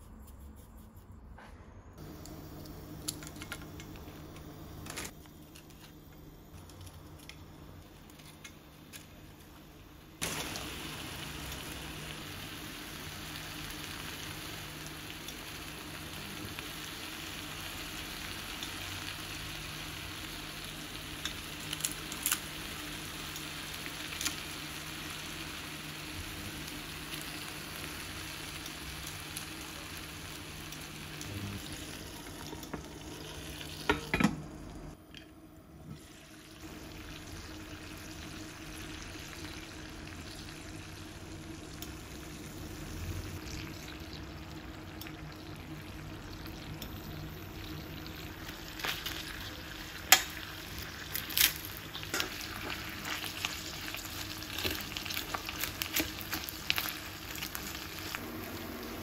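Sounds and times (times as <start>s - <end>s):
food frying in oil: 2.0s - 35.0s, 35.9s - 59.0s.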